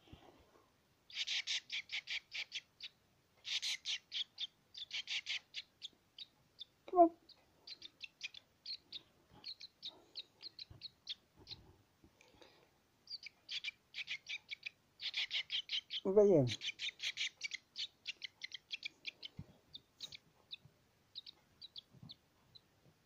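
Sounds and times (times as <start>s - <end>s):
fledglings chirping: 1.1s - 11.6s, 13.0s - 22.7s.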